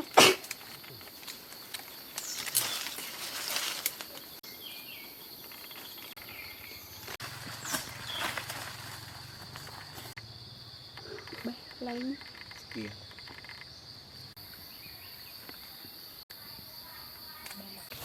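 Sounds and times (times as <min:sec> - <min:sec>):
rustling leaves and branches: 0:00.0 - 0:15.8
insect drone: 0:00.0 - 0:18.0.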